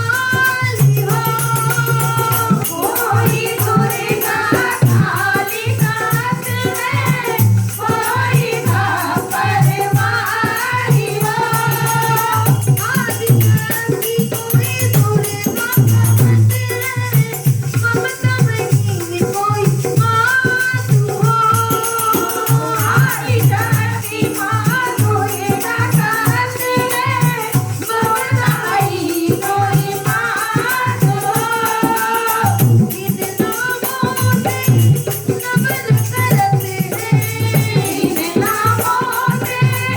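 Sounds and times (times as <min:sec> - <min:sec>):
hand drum beat: 0:00.0 - 0:39.9
voices singing devotional song: 0:00.0 - 0:39.9.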